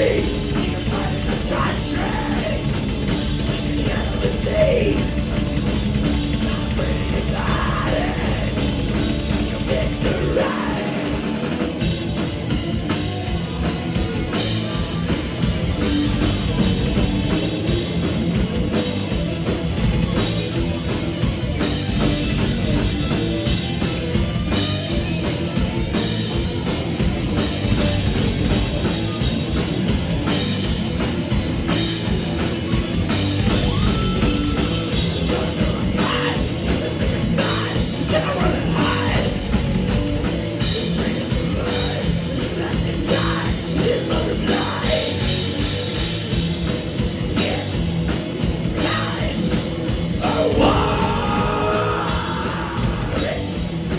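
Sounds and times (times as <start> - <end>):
drum kit: 0.0 - 53.9
electric guitar: 0.0 - 53.9
heavy rock band playing: 0.0 - 53.9.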